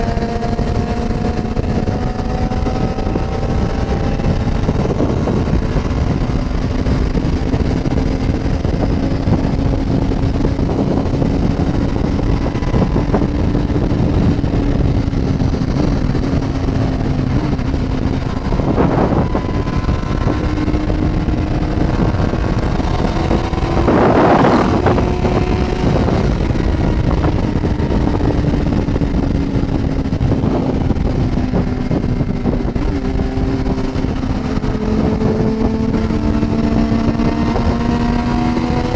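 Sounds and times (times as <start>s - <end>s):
heavy wind rush: 0.0s - 38.9s
motorcycle engine cruising: 0.0s - 38.9s.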